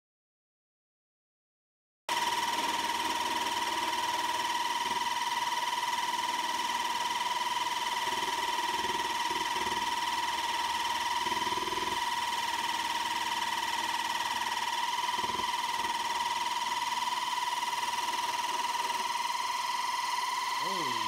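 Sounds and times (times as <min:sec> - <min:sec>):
scroll saw whine: 0:02.1 - 0:21.0.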